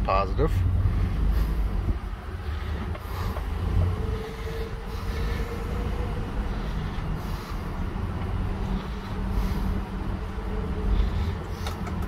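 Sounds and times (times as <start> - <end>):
faint whine: 0.0 - 12.0
truck engine rumbling: 0.0 - 12.0.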